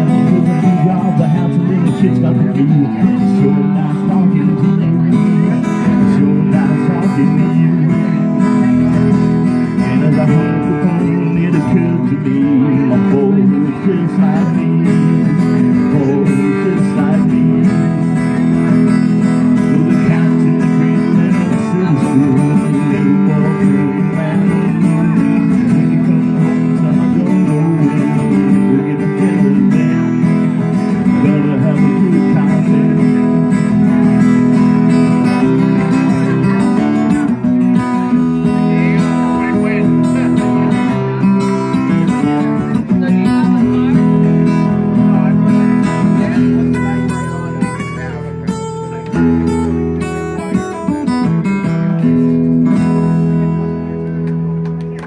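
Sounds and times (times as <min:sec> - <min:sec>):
acoustic guitars strumming: 0:00.0 - 0:55.0.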